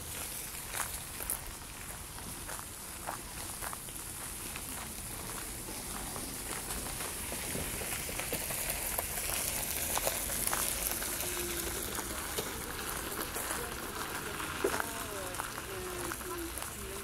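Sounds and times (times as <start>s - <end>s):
footsteps crunching on gravel: 0.0s - 17.0s
tyres hissing on gravel: 0.0s - 17.0s.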